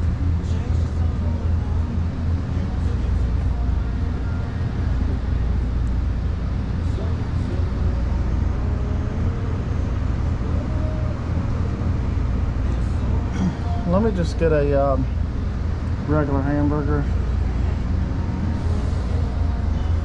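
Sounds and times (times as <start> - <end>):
faint voices: 0.0 - 20.0
truck engine running: 0.0 - 20.0.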